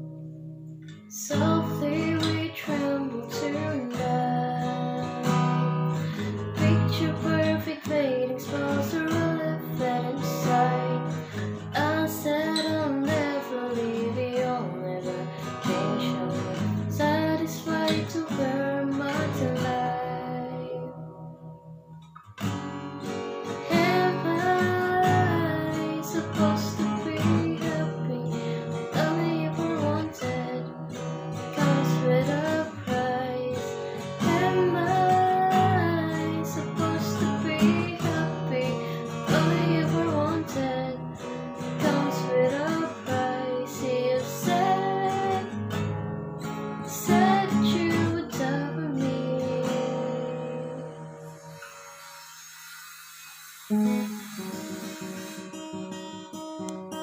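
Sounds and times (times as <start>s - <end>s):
acoustic guitar strumming: 0.0s - 57.0s
woman singing: 0.9s - 21.4s, 23.5s - 46.0s, 46.6s - 52.0s.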